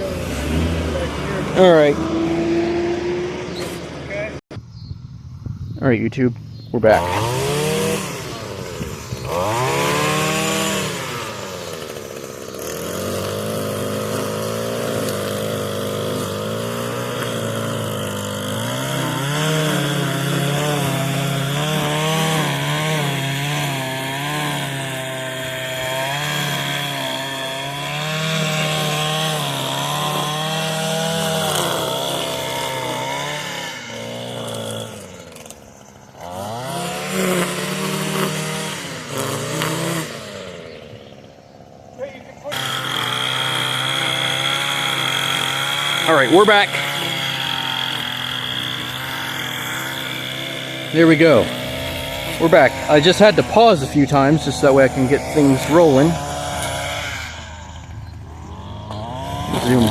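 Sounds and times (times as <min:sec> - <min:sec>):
string trimmer engine running: 0:00.0 - 0:04.4, 0:06.8 - 0:59.9.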